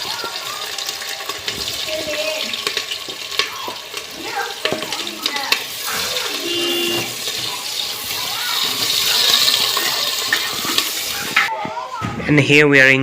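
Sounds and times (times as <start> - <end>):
food sizzling in a pot: 0.0 - 11.5.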